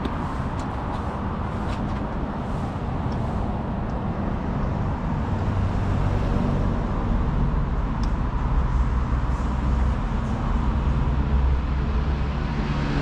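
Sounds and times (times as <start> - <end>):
passing cars on city street: 0.0 - 13.0.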